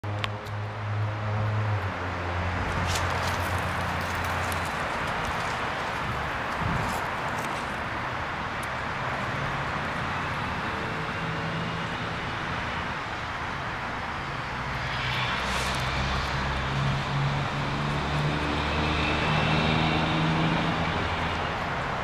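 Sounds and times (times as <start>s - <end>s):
outdoor noise: 0.0s - 22.0s
distant engine hum: 0.1s - 22.0s.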